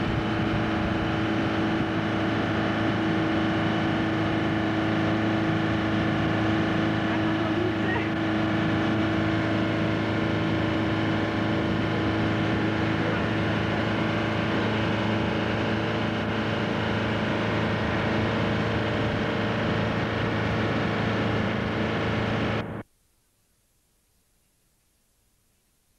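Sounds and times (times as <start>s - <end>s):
speedboat engine running: 0.0s - 22.8s.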